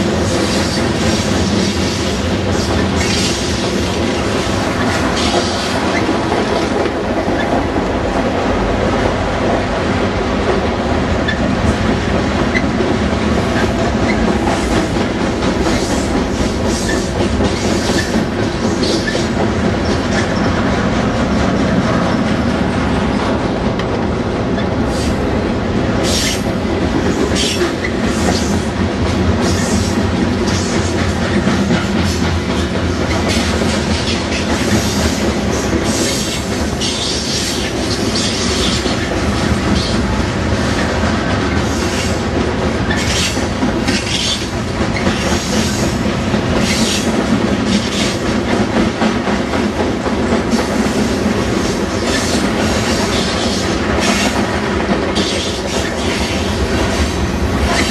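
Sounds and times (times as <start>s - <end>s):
freight train wheels rumbling: 0.0s - 57.9s.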